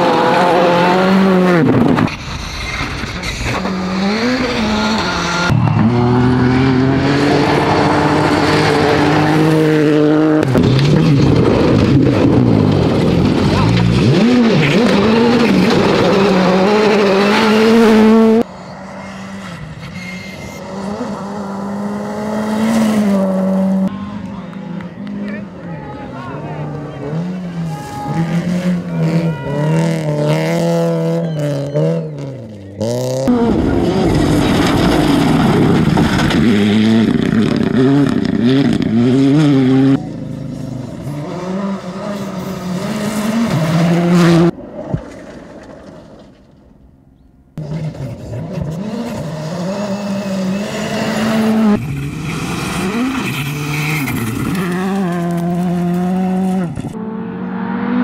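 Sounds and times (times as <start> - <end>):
rally car engine revving: 0.0 - 25.7, 26.4 - 45.0, 47.6 - 58.0.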